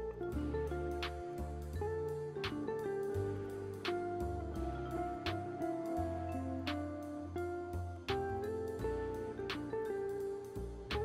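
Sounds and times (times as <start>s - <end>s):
instrumental music with bass: 0.0s - 11.0s.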